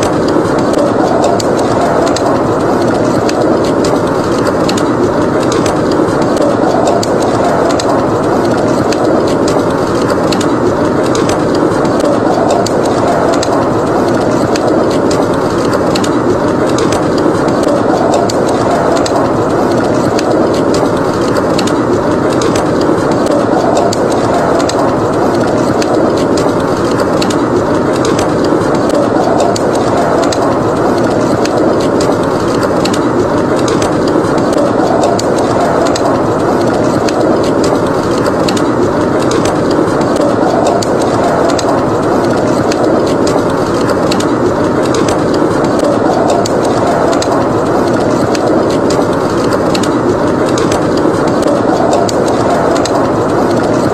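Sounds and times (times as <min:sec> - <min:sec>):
howling wind: 0:00.0 - 0:53.9
wood fire crackling: 0:00.0 - 0:53.9.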